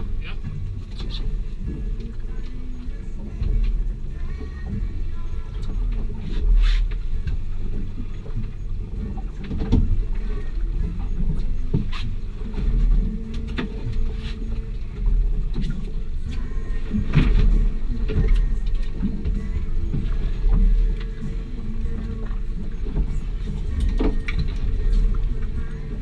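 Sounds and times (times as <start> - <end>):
boat motor rumble: 0.0 - 26.0
water against hull: 0.0 - 26.0.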